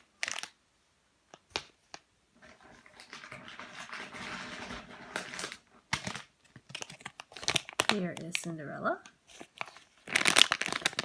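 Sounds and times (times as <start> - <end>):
plastic packaging crinkling: 0.0 - 0.6, 2.4 - 11.0.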